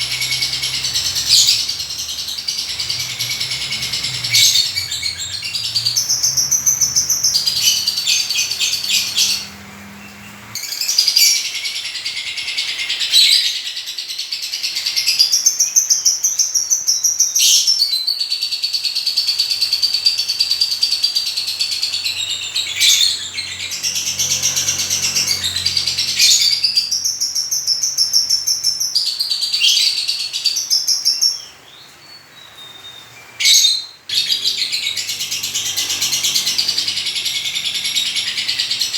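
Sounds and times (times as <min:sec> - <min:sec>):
lovebird chirping: 0:00.0 - 0:38.9.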